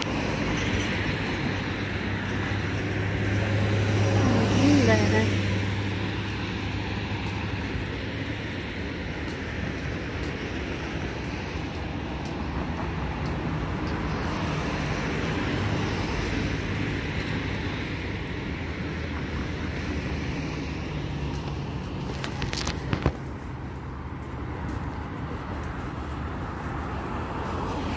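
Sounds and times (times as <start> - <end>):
city road traffic rumble: 0.0 - 27.9.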